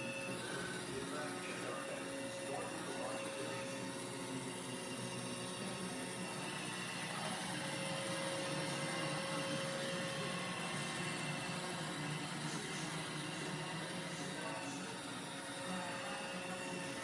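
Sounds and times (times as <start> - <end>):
robot vacuum whirring: 0.0 - 17.0
thin constant whine: 0.0 - 17.0.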